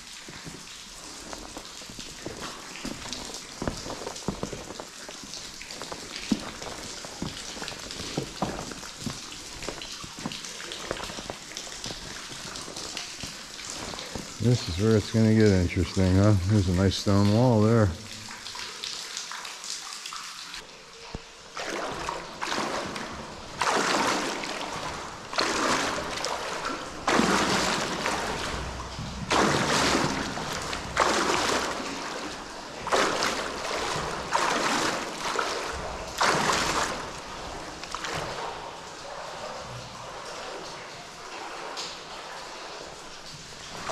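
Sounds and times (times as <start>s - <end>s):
wading steps splashing in water: 0.0s - 43.9s.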